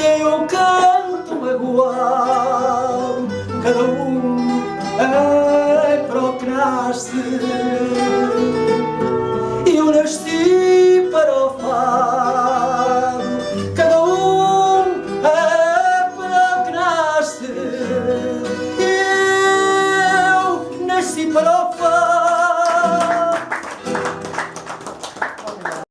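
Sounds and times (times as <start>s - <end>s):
person singing with vibrato: 0.0s - 23.7s
guitars playing: 0.0s - 25.4s.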